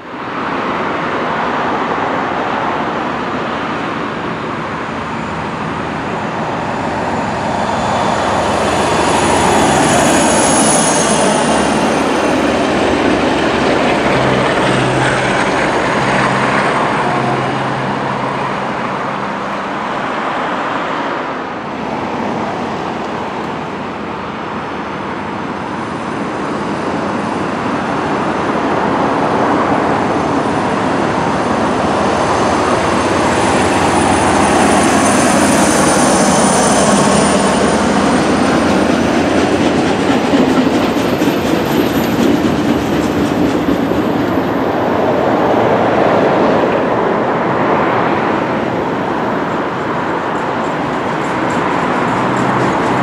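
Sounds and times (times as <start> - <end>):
train wheel-on-rail rumble: 0.0 - 53.0.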